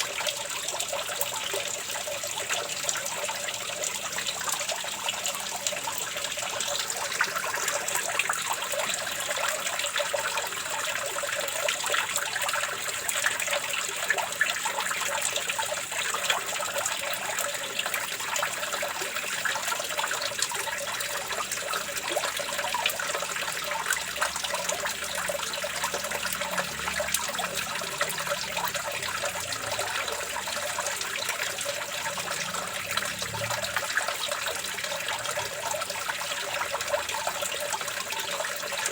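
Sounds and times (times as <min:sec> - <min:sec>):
running water splashing: 0:00.0 - 0:38.9.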